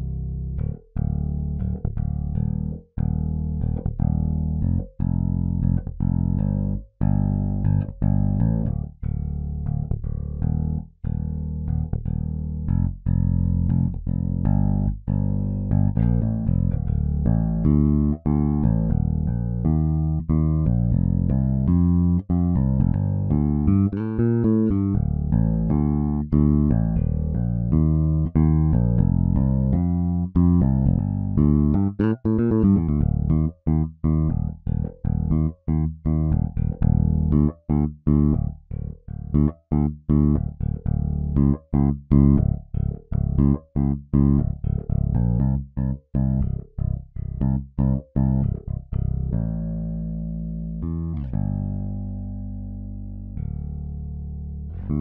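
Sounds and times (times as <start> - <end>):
electric bass groove: 0.0 - 55.0.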